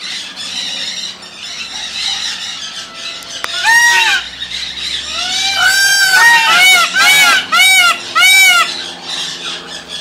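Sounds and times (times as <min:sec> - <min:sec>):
peafowl calling: 0:00.0 - 0:10.0.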